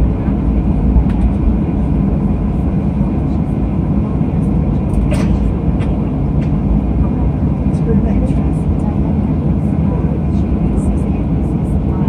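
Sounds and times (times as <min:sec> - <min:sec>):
jet engine rumble inside cabin: 0:00.0 - 0:12.0.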